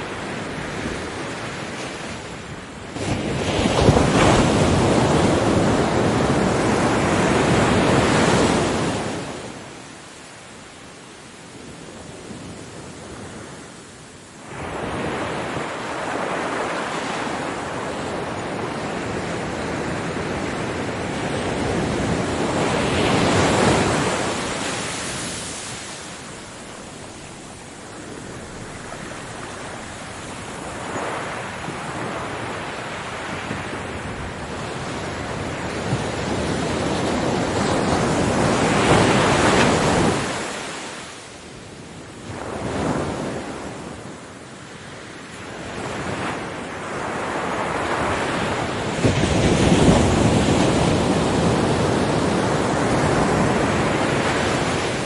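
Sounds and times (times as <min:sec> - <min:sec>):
ocean waves breaking on beach: 0:00.0 - 0:55.0
wind noise on microphone: 0:00.0 - 0:55.0.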